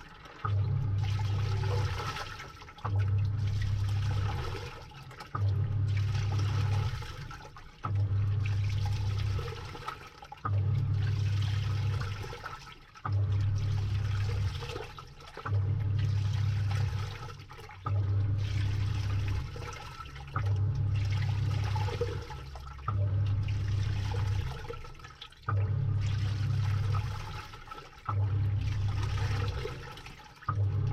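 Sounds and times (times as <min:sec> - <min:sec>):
washing machine motor humming: 0:00.0 - 0:30.9
water sloshing and splashing: 0:00.0 - 0:30.9.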